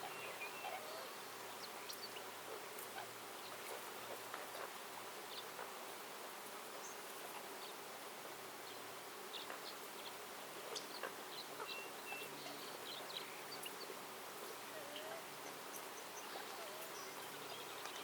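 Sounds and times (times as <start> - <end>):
natural background hiss: 0.0 - 18.0.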